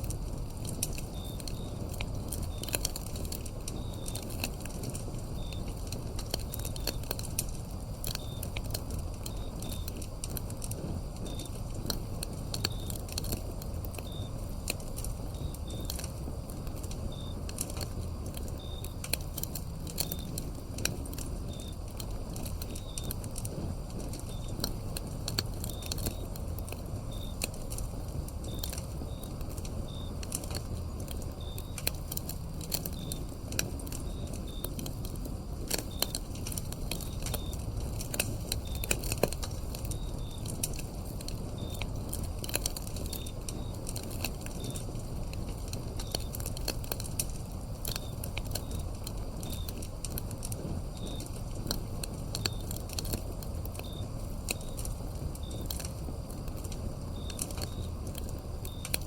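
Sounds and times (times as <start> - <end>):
crickets chirping: 0.0 - 59.0
wood fire crackling: 0.0 - 59.0.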